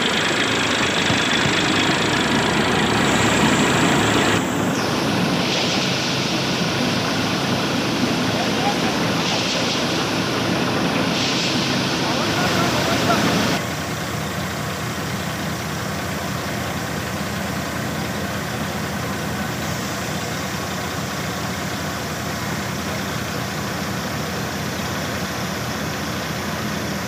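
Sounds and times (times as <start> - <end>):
tractor engine drone: 0.0 - 27.0.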